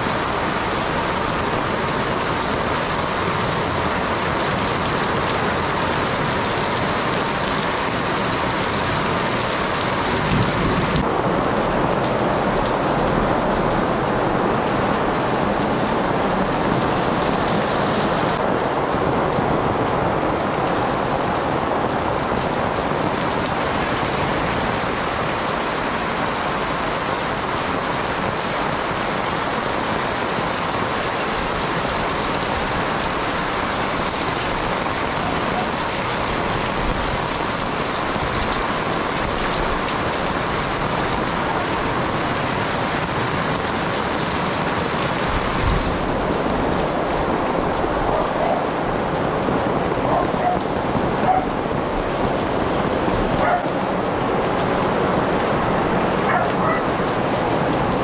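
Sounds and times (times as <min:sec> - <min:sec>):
heavy rain on concrete: 0:00.0 - 0:58.0.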